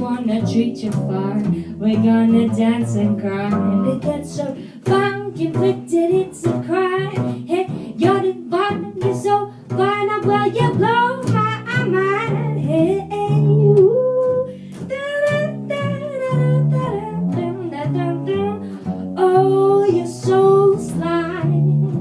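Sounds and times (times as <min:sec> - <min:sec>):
guitar: 0:00.0 - 0:22.0
plucked double bass: 0:00.0 - 0:22.0.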